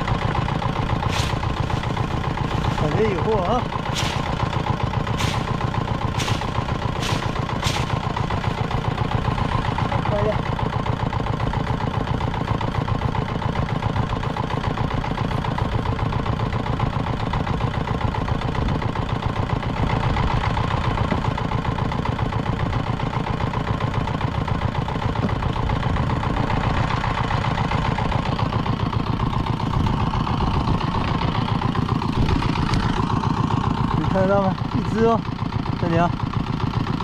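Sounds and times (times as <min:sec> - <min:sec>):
boat engine running steadily: 0:00.0 - 0:37.0.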